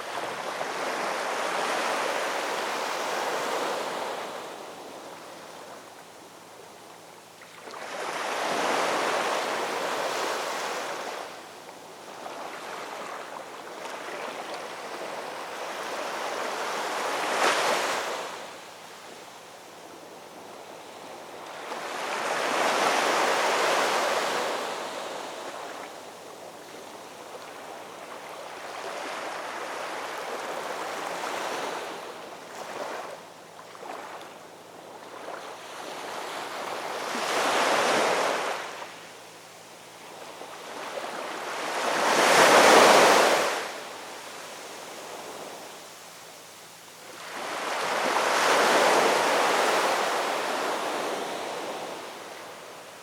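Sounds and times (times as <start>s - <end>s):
ocean waves breaking on shore: 0.0s - 5.9s, 7.6s - 11.4s, 12.0s - 18.6s, 20.2s - 39.0s, 40.0s - 46.0s, 47.0s - 53.0s.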